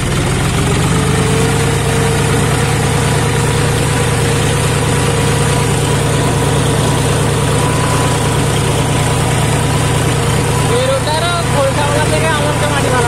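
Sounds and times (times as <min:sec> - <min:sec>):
tractor diesel engine running: 0:00.0 - 0:13.0
wheels splashing through mud: 0:00.0 - 0:13.0.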